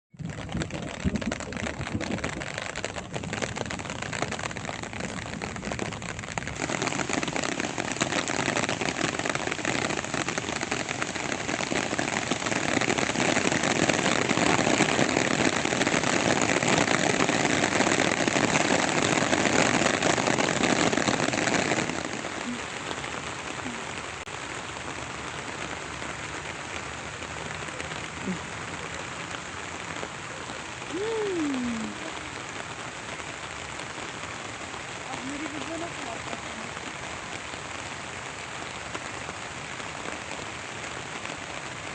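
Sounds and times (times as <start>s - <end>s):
rain falling: 0.1s - 41.9s.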